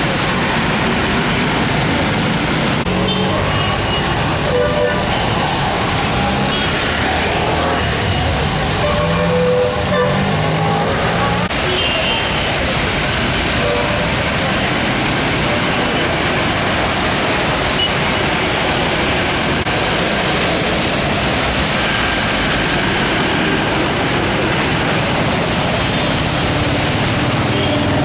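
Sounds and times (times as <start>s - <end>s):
floodwater rushing across road: 0.0s - 28.0s
traffic driving through water: 0.0s - 28.0s.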